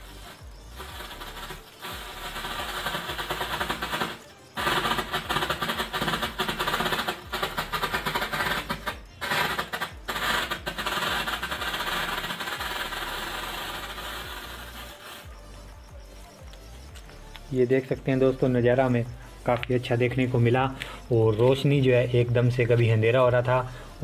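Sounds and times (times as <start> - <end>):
firecracker crackling: 0.0 - 24.0.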